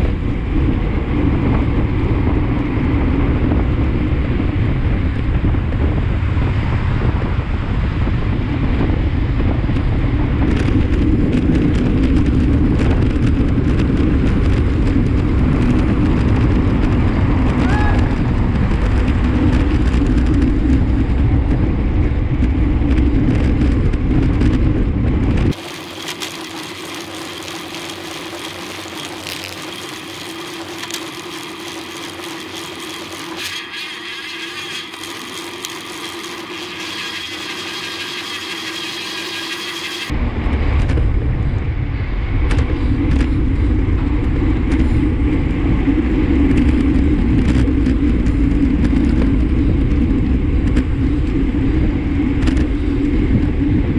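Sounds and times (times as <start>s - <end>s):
tyre and road noise: 0.0s - 53.9s
wind rumble on microphone: 0.0s - 53.9s.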